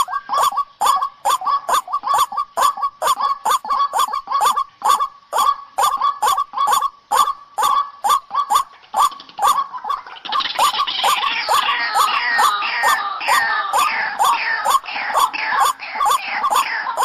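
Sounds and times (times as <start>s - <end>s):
waterhen harsh honking calls: 0.0s - 17.0s.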